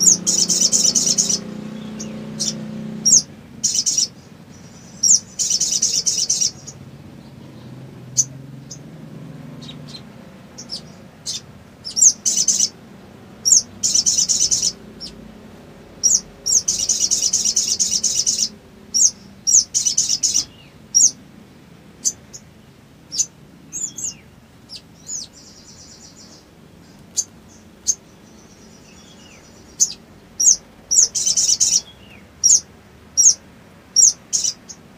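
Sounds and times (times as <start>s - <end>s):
sunbird chips and trills: 0.0s - 15.3s, 15.9s - 21.2s, 22.0s - 34.9s.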